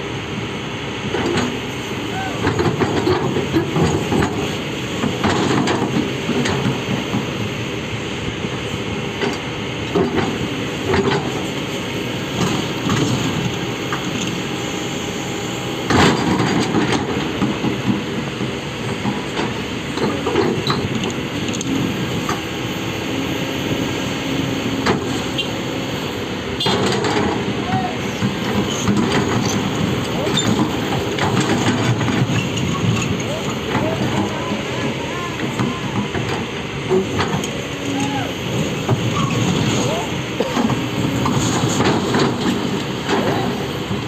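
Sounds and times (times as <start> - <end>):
excavator rumbling: 0.0 - 44.0.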